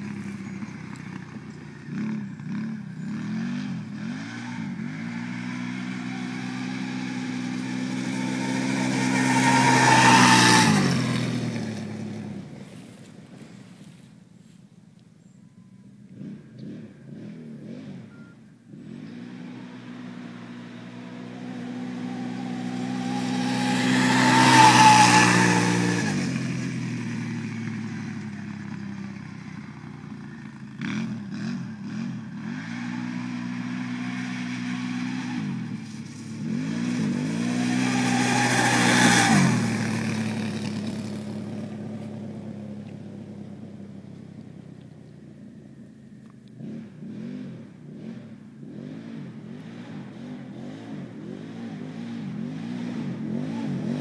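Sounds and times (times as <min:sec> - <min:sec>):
atv engine revving: 0:00.0 - 0:12.8, 0:16.0 - 0:54.0.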